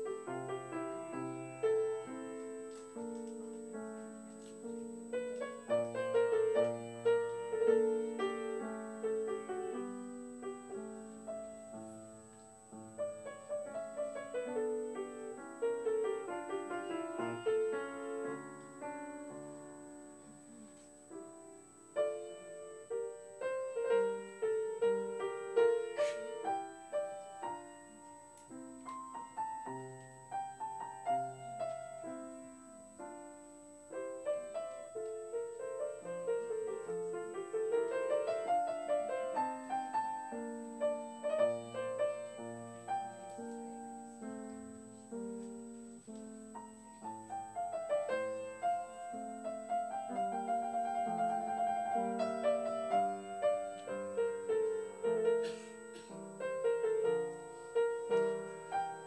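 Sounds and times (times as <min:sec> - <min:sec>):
grand piano piece: 0:00.0 - 0:59.0.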